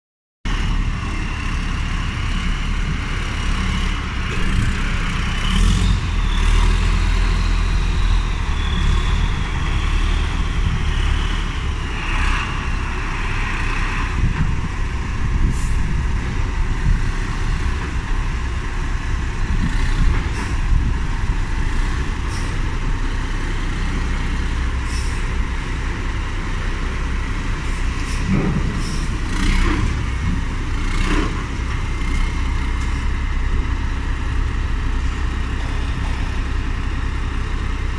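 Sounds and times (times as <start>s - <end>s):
tractor diesel engine under load: 0.4s - 37.9s.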